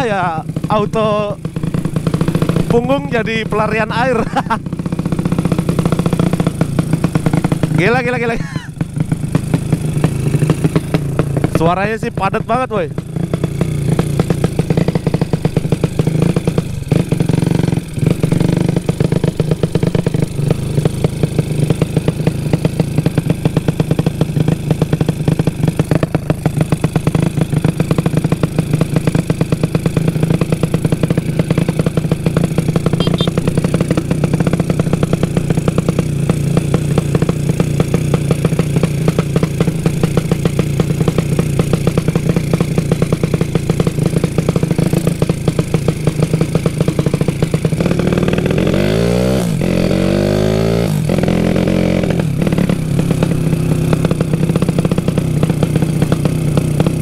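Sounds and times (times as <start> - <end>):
motorcycle engine pulsing: 0.0 - 57.0.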